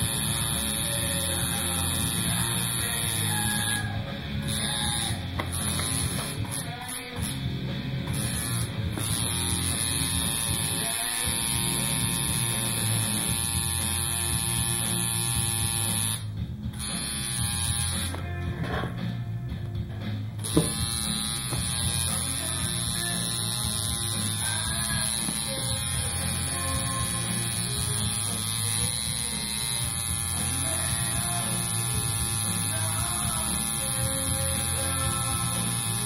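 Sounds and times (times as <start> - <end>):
tattoo machine buzzing: 0.0 - 18.4, 20.4 - 36.0
background music: 0.0 - 36.0.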